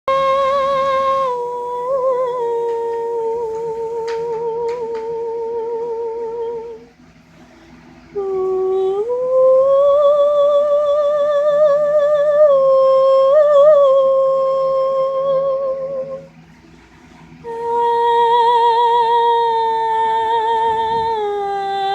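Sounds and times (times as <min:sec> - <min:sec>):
person humming with vibrato: 0:00.1 - 0:06.9, 0:08.1 - 0:16.3, 0:17.4 - 0:21.9.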